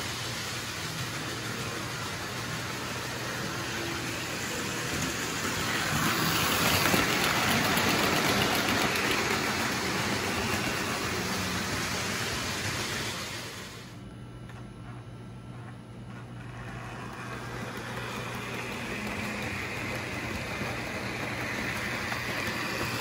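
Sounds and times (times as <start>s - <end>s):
model train running on track: 0.0s - 13.9s, 15.6s - 23.0s.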